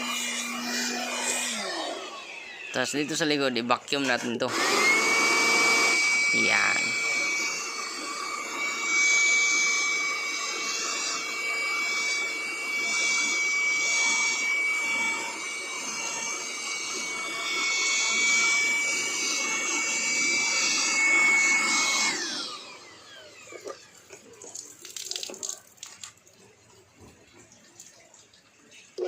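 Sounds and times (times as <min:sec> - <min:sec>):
vacuum cleaner running: 0:00.0 - 0:24.6.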